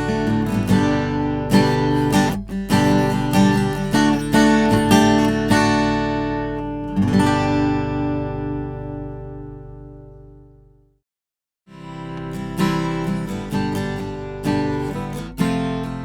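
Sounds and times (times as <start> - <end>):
acoustic guitar playing: 0.0 - 10.9, 11.7 - 16.0.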